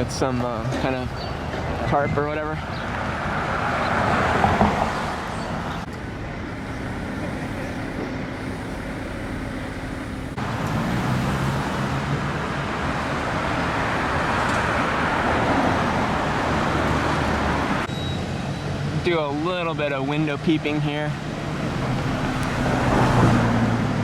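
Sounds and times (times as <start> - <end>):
vehicles passing on street: 0.0 - 24.0.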